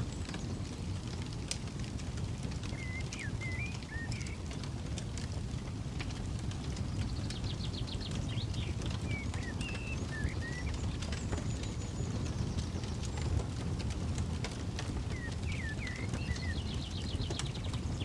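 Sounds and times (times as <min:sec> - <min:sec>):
campfire crackling and popping: 0:00.0 - 0:18.0
low steady rumble: 0:00.0 - 0:18.0
small birds chirping: 0:00.0 - 0:18.0.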